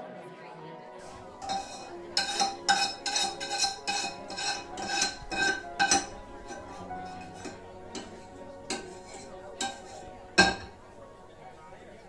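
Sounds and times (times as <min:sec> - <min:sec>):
metal utensil clinking on ceramic dish: 0:01.0 - 0:10.8.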